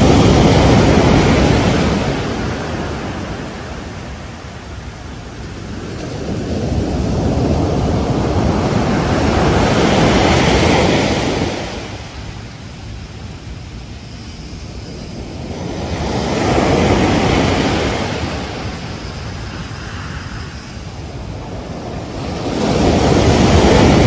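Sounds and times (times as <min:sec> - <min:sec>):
ocean waves crashing: 0:00.0 - 0:24.0.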